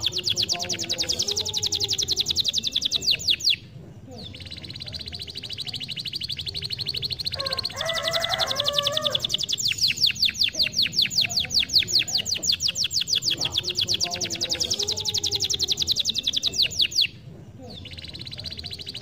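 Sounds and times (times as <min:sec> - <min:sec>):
canary singing trills: 0:00.0 - 0:19.0
quiet low bird warbling: 0:00.0 - 0:19.0.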